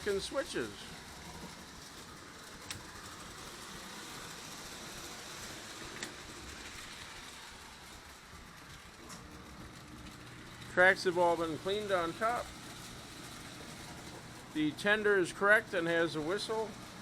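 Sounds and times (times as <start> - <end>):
toy train rumbling on track: 0.0 - 17.0.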